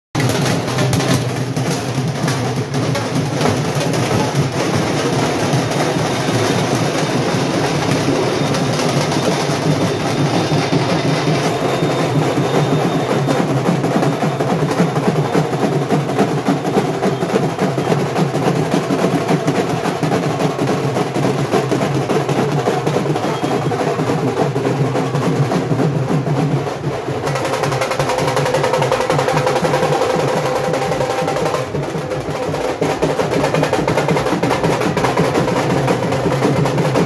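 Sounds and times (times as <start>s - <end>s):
dhol drums beating: 0.2s - 37.0s.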